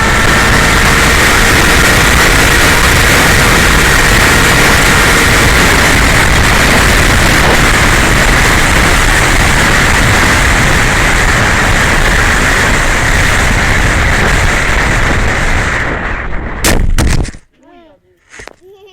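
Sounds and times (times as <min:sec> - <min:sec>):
model plane motor and propeller: 0:00.0 - 0:16.0
wind over microphone: 0:00.0 - 0:17.5.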